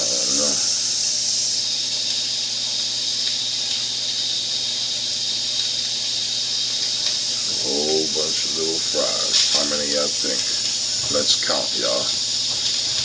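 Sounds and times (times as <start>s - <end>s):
aquarium water hissing: 0.0s - 13.0s.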